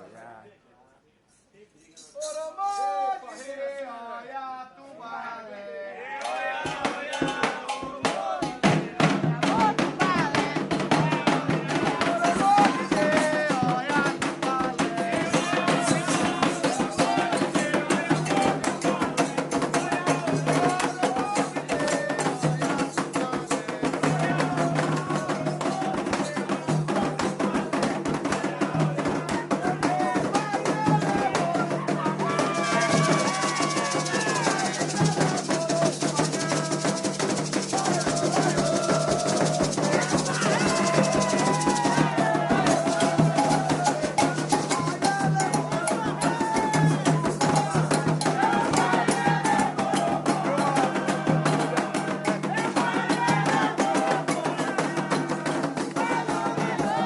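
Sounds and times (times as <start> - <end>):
sung chants: 1.9 - 57.0
fast hand drumming: 6.6 - 57.0.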